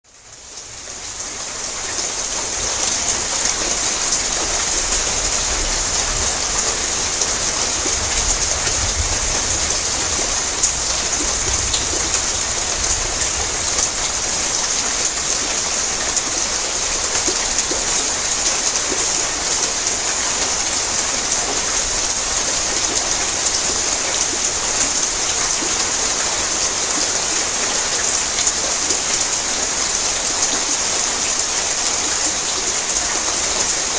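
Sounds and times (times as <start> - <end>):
heavy rain on a tin roof: 0.0 - 33.9.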